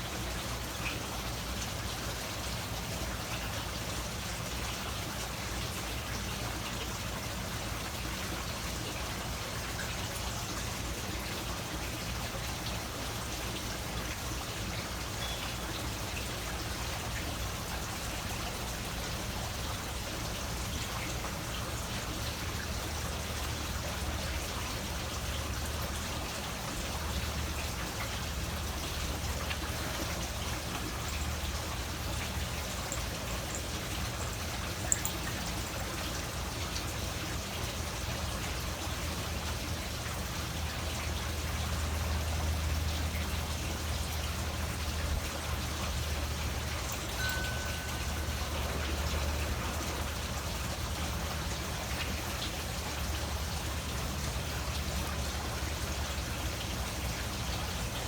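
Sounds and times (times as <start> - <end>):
falling water pattering: 9.6 - 58.0.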